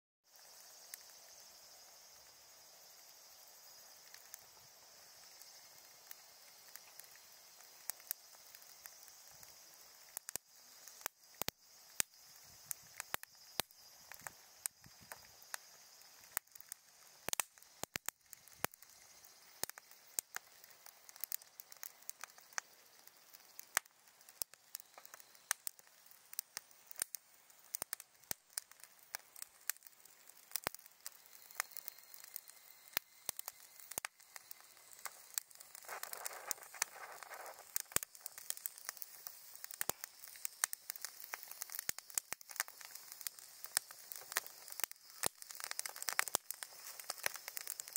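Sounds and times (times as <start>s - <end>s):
campfire crackling and popping: 0.3s - 47.9s.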